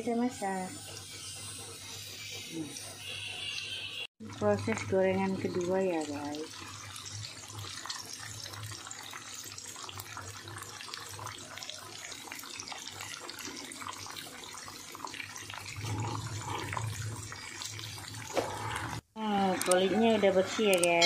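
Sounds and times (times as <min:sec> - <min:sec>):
beans deep-frying in oil: 0:00.0 - 0:21.0.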